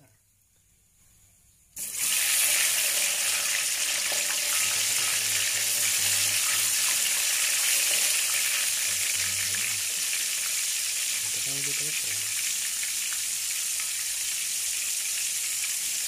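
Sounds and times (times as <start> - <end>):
hot oil sizzling in a wok: 1.8 - 16.0.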